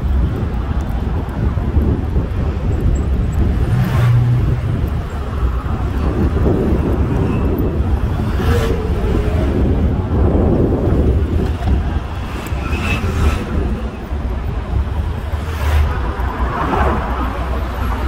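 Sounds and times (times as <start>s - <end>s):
road traffic rumble: 0.0s - 18.0s
wind buffeting microphone: 0.0s - 18.0s.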